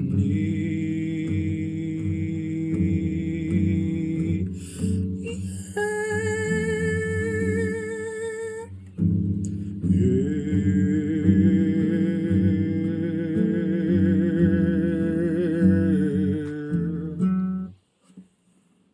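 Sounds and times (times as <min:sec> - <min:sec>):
man singing long notes with vibrato: 0:00.0 - 0:08.7, 0:09.7 - 0:17.6
acoustic guitar: 0:00.0 - 0:18.8.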